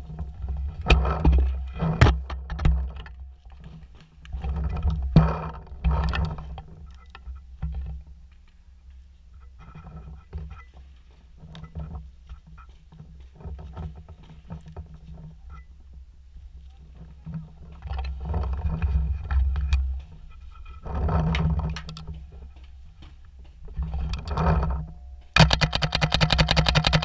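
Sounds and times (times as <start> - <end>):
scuffing and rustling against logs: 0.0 - 25.4.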